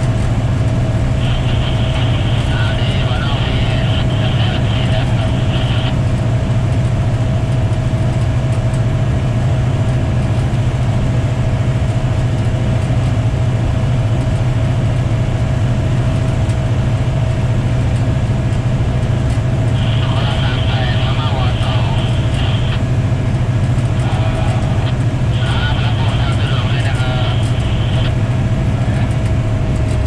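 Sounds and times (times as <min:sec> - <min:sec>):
faint steady whine: 0:00.0 - 0:30.0
locomotive engine drone: 0:00.0 - 0:30.0.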